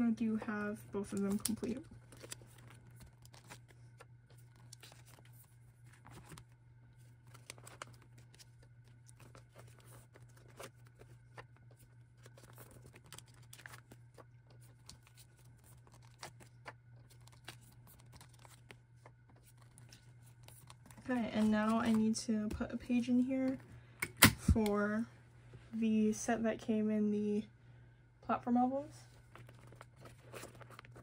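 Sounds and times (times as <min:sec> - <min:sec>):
plastic sleeves rustling: 0:00.0 - 0:24.6, 0:29.0 - 0:31.0
low steady hum: 0:00.0 - 0:31.0.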